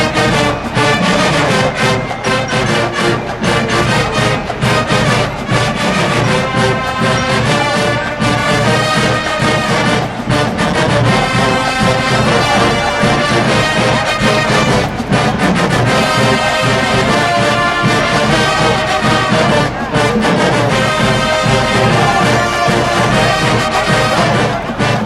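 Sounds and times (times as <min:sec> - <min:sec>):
marching band brass playing: 0:00.0 - 0:25.0.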